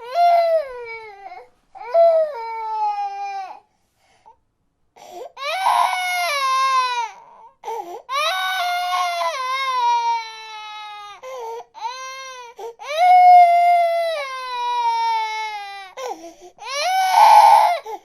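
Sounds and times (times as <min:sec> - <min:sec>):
baby crying: 0:00.0 - 0:03.6, 0:05.3 - 0:18.0.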